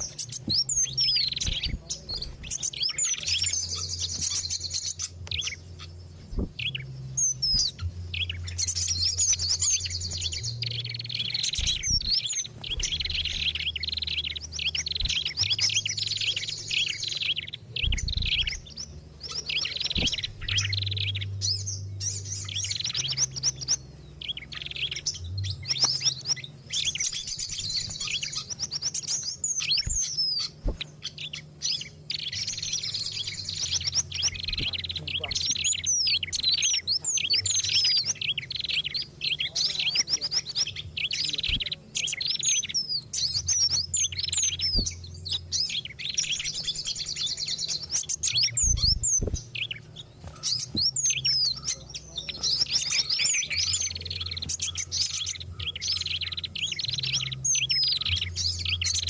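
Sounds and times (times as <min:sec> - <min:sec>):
faint low hum: 0:00.0 - 0:59.0
songbirds chirping and chattering: 0:00.0 - 0:59.0.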